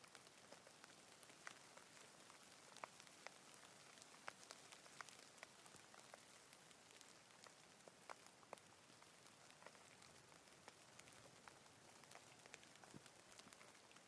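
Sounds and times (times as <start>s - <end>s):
raindrops ticking: 0.0s - 14.0s
soft rain hiss: 0.0s - 14.0s.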